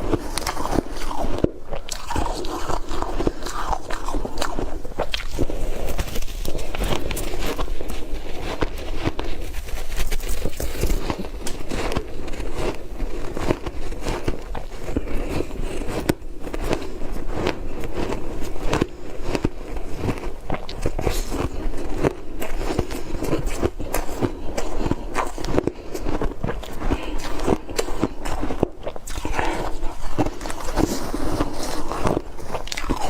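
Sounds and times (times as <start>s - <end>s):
ice crunching while chewed: 0.0s - 33.0s.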